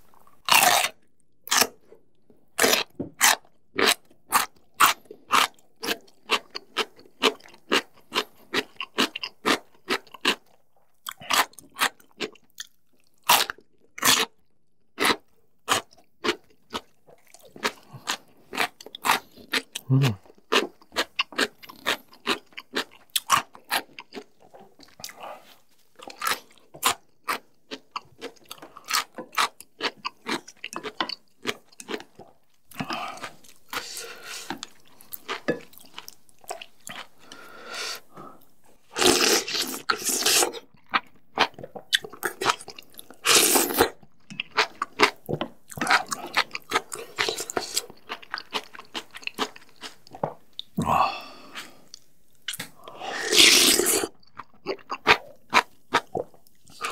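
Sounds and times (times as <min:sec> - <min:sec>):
chewing and crunching food: 0:00.0 - 0:56.9.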